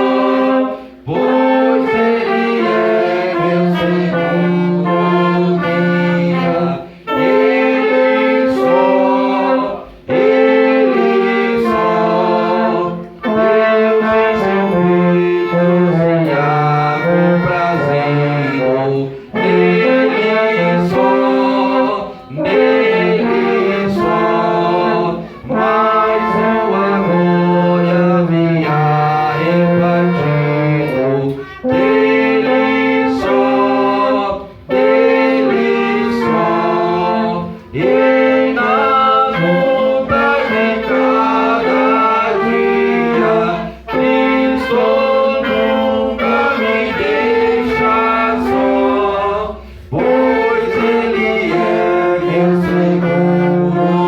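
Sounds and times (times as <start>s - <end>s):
wind band playing a hymn: 0.0s - 54.0s.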